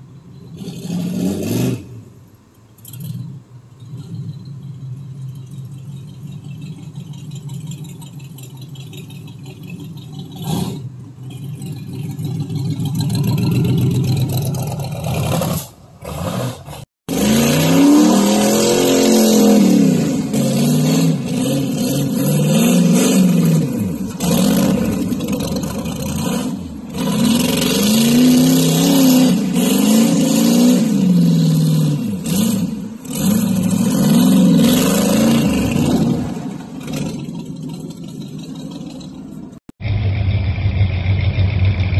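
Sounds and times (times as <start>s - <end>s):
engine rumbling and revving: 0.0s - 41.9s.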